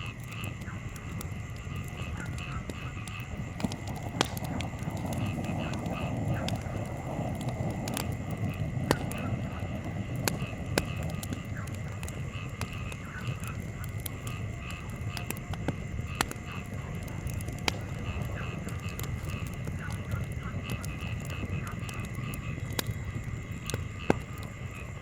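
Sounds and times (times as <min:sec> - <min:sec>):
breeze rumbling: 0:00.0 - 0:25.0
campfire crackling: 0:00.0 - 0:25.0.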